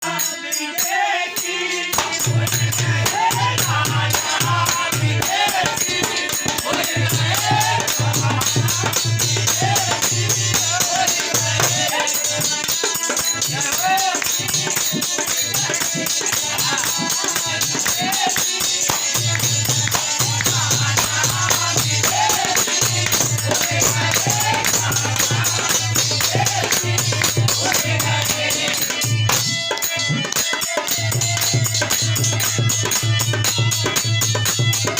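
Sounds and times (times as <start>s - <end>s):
jingling percussion: 0.0s - 34.9s
devotional music: 0.1s - 34.9s.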